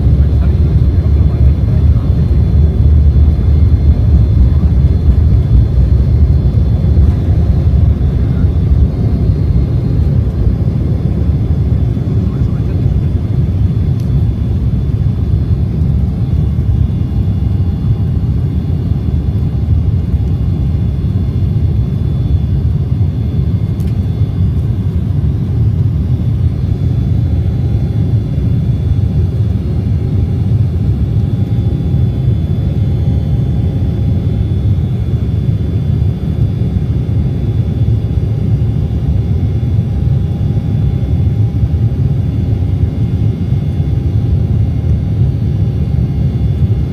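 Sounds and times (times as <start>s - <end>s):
faint jet engine whine: 0.0s - 46.9s
jet engine rumble: 0.0s - 46.9s.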